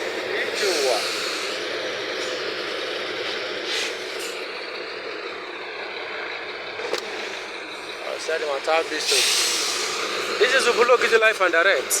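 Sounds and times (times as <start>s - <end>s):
vehicle engines in traffic: 0.0s - 12.0s.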